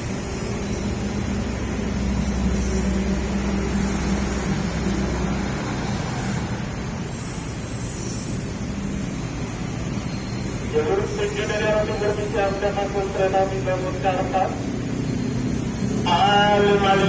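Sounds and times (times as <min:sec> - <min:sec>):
train humming drone: 0:00.0 - 0:17.0.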